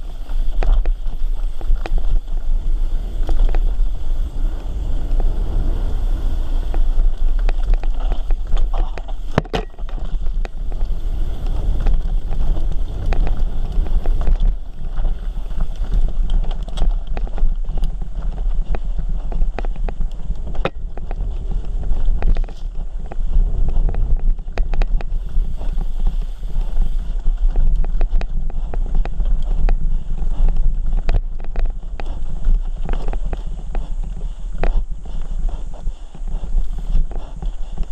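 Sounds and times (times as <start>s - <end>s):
bike knocking and rattling: 0.0s - 37.9s
tyres rolling on gravel: 0.0s - 37.9s
wind buffeting microphone: 0.0s - 37.9s.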